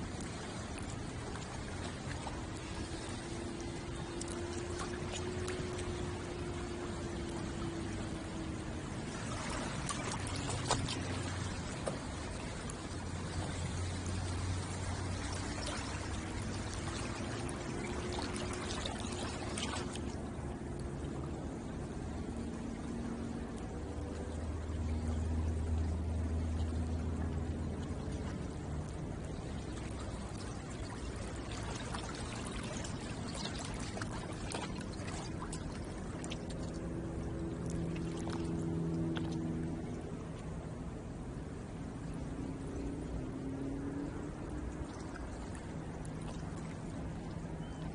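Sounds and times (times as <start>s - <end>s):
faint steady hum: 0.0s - 47.9s
water lapping at shoreline: 0.0s - 47.9s.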